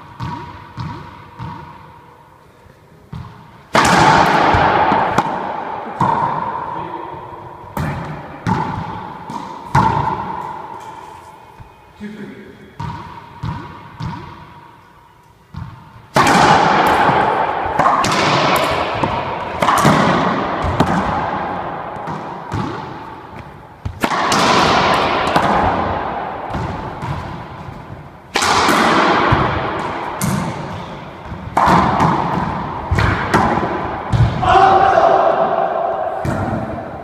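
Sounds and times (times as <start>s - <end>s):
racquetball hits echoing in court: 0.0s - 2.1s, 3.1s - 11.8s, 12.7s - 14.7s, 15.5s - 37.0s.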